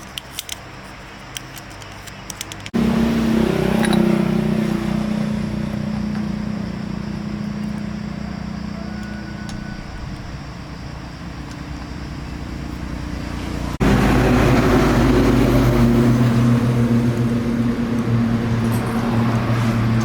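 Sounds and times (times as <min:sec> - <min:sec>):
generator engine running: 0:02.8 - 0:20.0.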